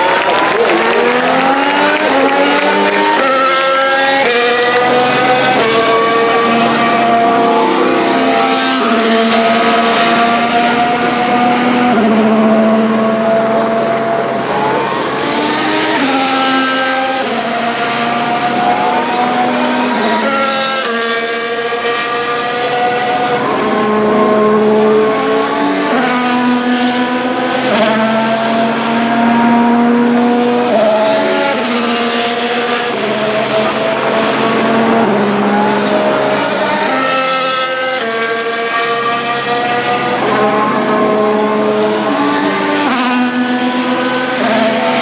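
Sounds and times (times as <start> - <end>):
racing cars engines with gear changes: 0.0 - 45.0.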